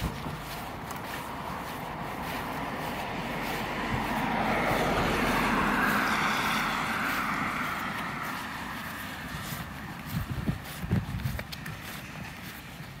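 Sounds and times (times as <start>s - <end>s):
car tyres on wet street: 0.0s - 13.0s.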